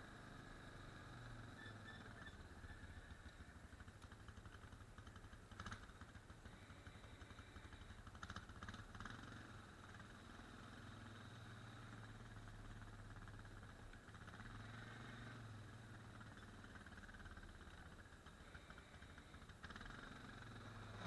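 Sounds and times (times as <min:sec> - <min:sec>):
faint engine running: 0:00.0 - 0:21.0.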